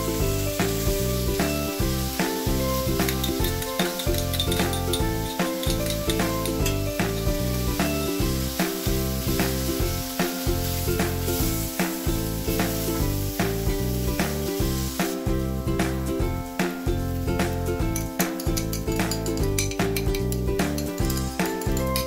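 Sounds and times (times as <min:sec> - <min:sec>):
background music with steady beat: 0:00.0 - 0:22.0
onions and tomatoes sizzling in pan: 0:00.0 - 0:22.0.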